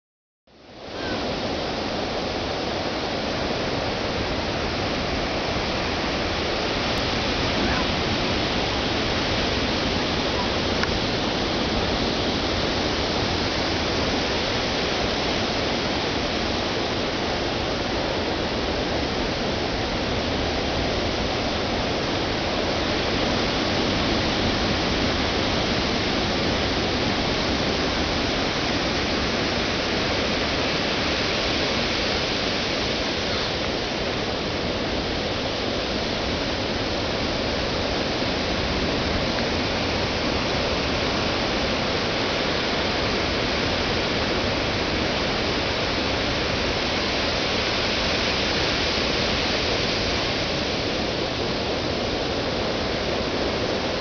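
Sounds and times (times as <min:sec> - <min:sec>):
ocean surf breaking: 0:00.8 - 0:54.0.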